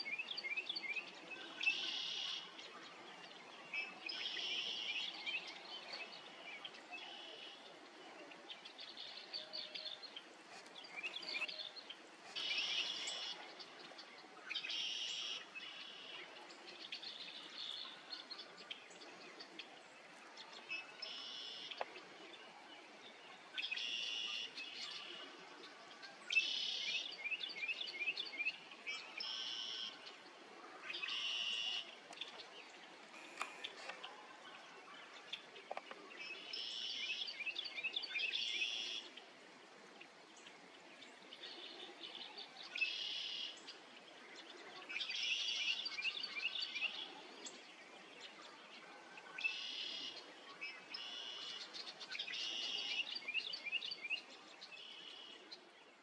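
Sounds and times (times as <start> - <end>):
birds singing: 0.0 - 39.4, 40.0 - 56.0
faint outdoor hiss: 0.0 - 56.0.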